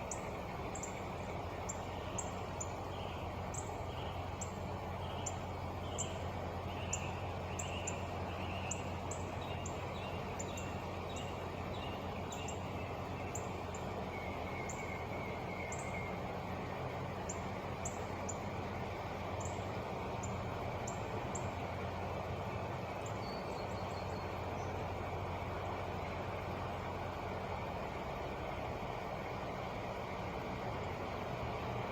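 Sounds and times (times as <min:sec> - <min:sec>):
birds chirping: 0:00.0 - 0:31.8
truck engine idling: 0:00.0 - 0:31.9.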